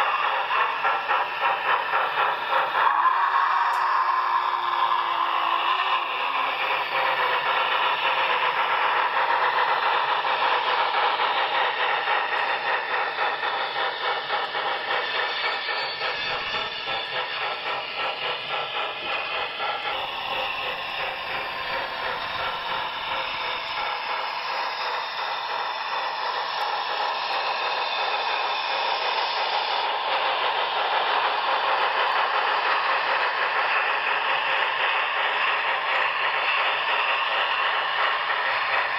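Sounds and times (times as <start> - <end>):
model train running on track: 0.0 - 38.9
steam chuffing from small speaker: 0.0 - 38.9.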